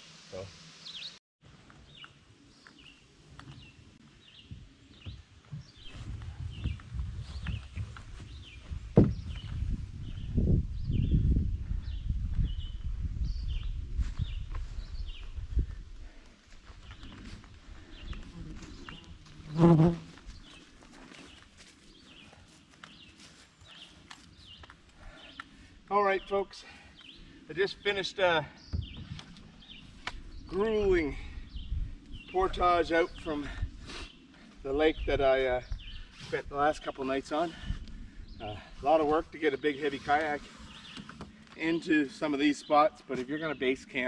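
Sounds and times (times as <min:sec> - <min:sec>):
birds chirping: 0:01.8 - 0:19.4, 0:20.2 - 0:44.0.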